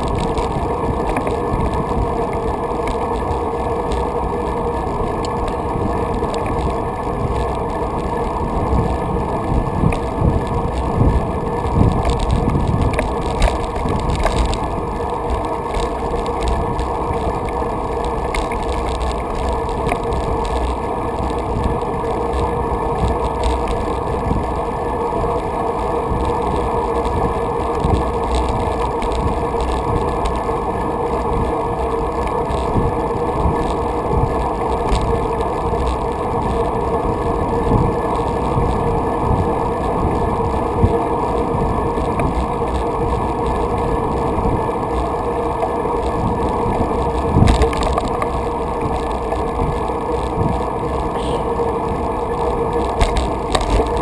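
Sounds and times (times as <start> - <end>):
bicycle tyres rolling on pavement: 0.0 - 54.0
wind rushing over microphone: 0.0 - 54.0.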